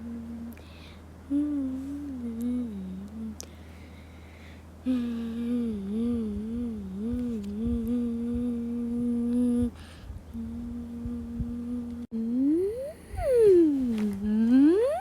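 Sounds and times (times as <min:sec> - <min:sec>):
low electrical hum: 0:00.0 - 0:15.0
processed hummed tone: 0:00.0 - 0:15.0.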